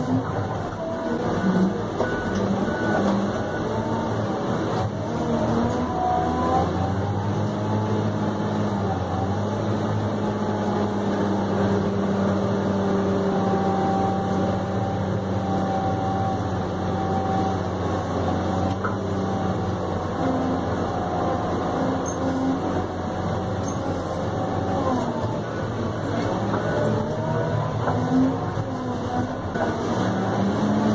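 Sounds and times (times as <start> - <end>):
diesel engine under load: 0.0 - 30.9
grader blade working earth: 0.0 - 30.9.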